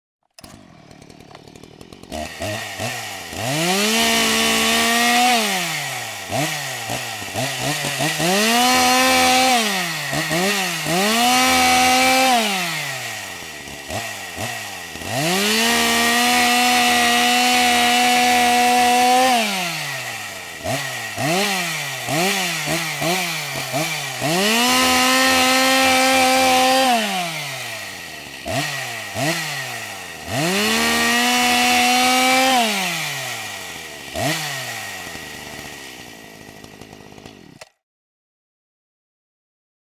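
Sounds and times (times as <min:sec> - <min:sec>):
chainsaw engine revving: 0:00.3 - 0:37.8.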